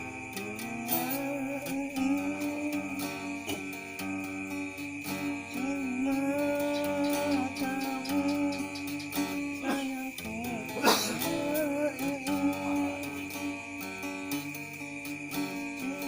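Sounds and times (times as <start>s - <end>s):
person humming a melody: 0.0s - 14.6s, 15.2s - 16.0s
backing music with guitar: 0.0s - 16.0s.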